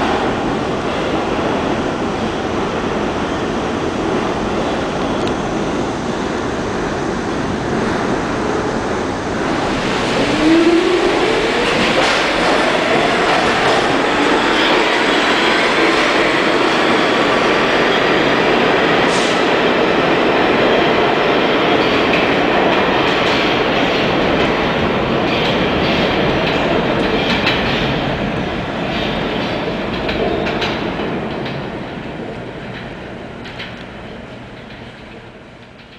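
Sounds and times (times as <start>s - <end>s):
subway train wheels rumbling: 0.0s - 35.9s.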